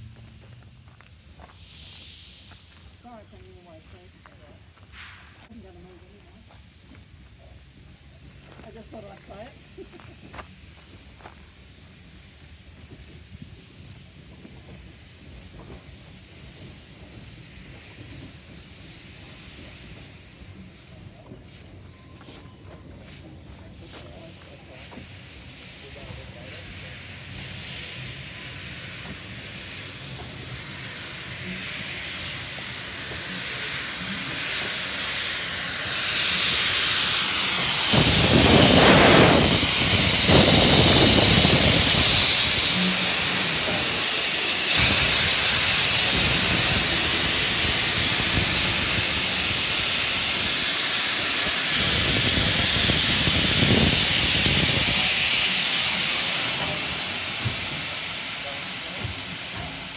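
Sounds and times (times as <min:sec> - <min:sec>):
steam hissing from cylinders: 0:00.0 - 0:59.9
steam locomotive moving slowly: 0:00.0 - 0:59.9.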